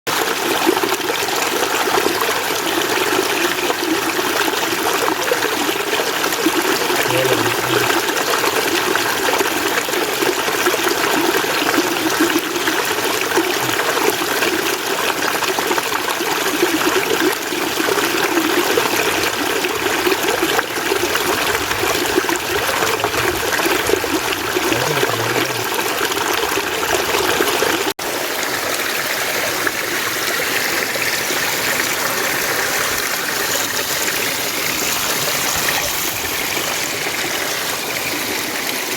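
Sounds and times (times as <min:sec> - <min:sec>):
stream water running: 0:00.1 - 0:38.9.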